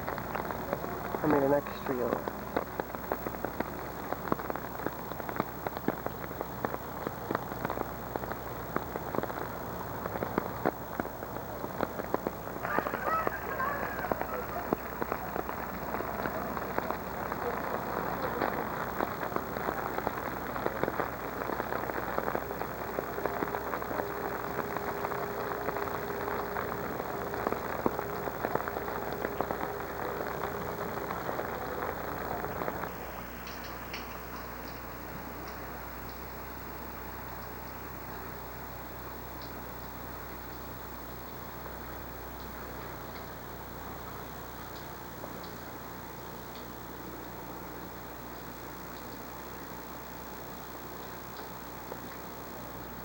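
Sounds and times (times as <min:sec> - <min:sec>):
raindrops ticking on hard surfaces: 0:00.0 - 0:53.0
steady hum: 0:00.0 - 0:53.0
steady rain falling: 0:00.0 - 0:53.0.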